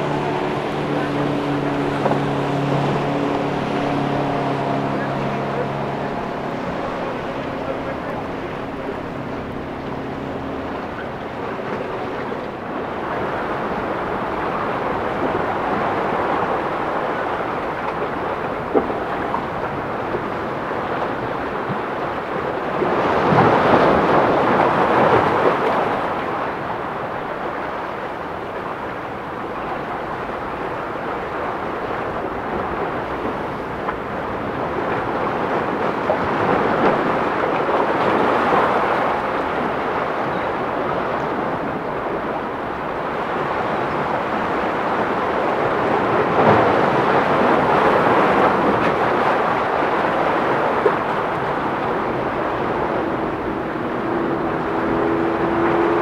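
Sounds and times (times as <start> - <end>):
breaking waves: 0.0 - 56.0
wind buffeting microphone: 0.0 - 56.0.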